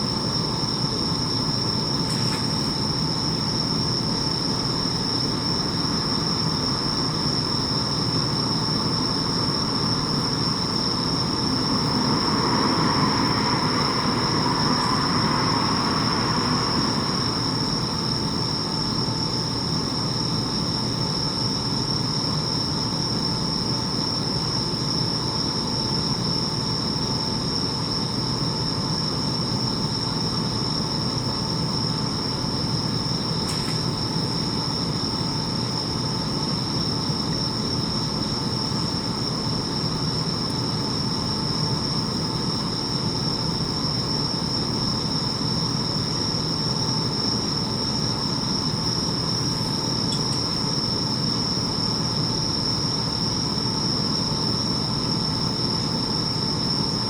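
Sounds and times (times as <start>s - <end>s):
crickets chirping chorus: 0.0s - 57.0s.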